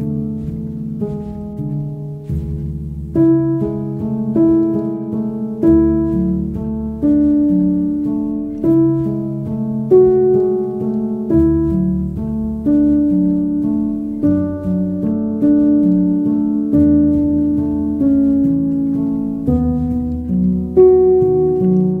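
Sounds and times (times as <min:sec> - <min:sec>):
slow background music: 0:00.0 - 0:22.0.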